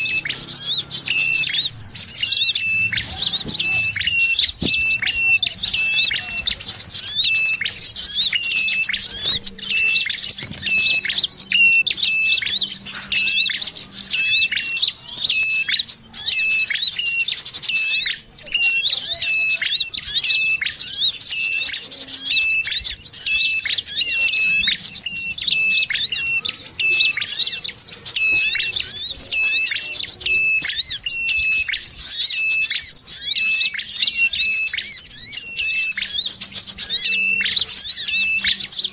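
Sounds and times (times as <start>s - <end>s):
birds twittering: 0.0s - 38.9s
short repeating bird call: 0.0s - 38.9s
sunbird calls: 0.0s - 38.9s.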